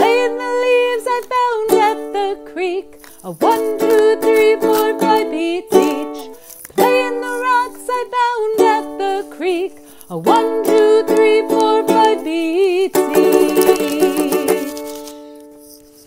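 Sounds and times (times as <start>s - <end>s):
ukulele strumming: 0.0s - 15.8s.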